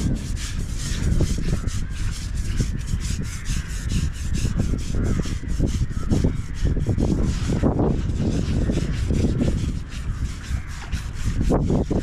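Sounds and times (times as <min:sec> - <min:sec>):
rasping scrubbing strokes: 0:00.0 - 0:12.0.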